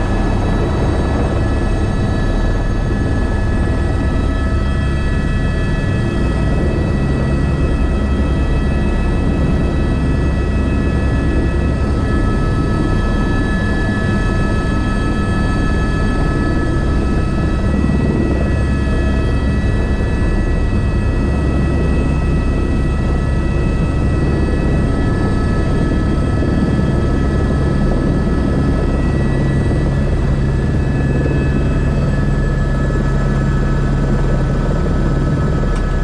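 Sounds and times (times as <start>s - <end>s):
helicopter rotor and engine rumble: 0.0s - 36.0s
high-pitched turbine whine: 0.0s - 36.0s.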